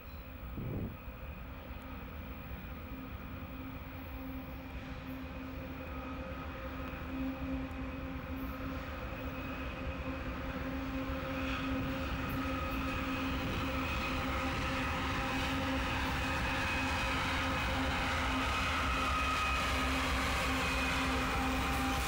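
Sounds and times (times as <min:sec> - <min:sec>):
diesel locomotives droning: 0:00.0 - 0:22.0.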